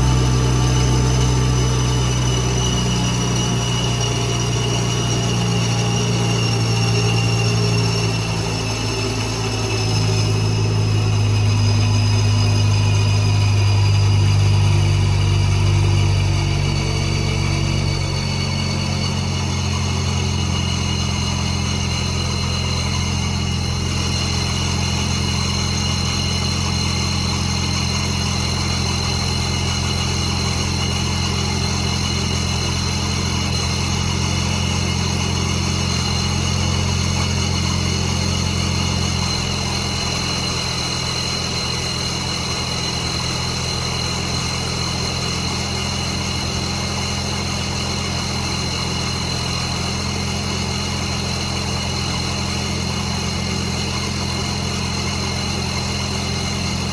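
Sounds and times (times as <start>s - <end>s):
car engine idling: 0.0s - 56.9s
high-pitched supercharger tone: 0.0s - 56.9s.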